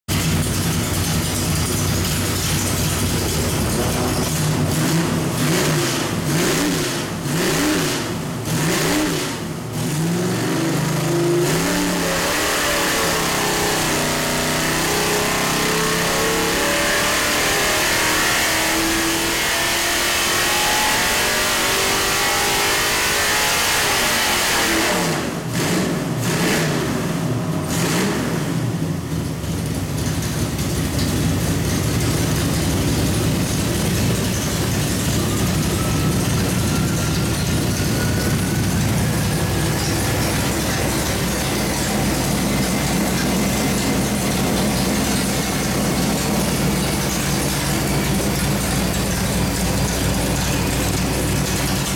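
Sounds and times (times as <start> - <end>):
engine revving and pulling: 1.3 - 28.9, 31.6 - 51.9.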